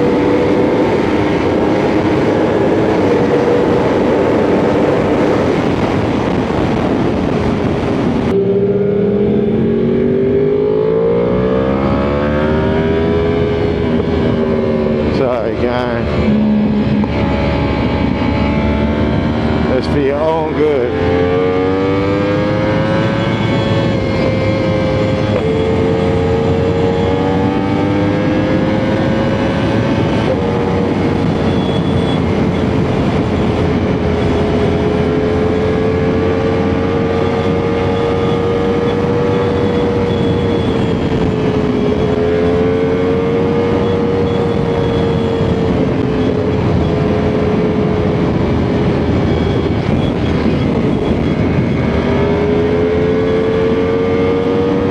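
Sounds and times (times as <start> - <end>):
motorcycle engine cruising: 0.0 - 54.9
wind and road noise: 0.0 - 54.9.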